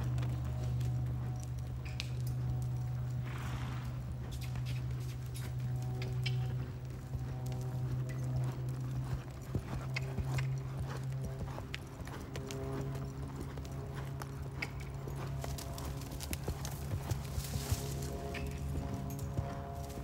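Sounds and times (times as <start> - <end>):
horse hoofbeats on sand: 0.0 - 20.0.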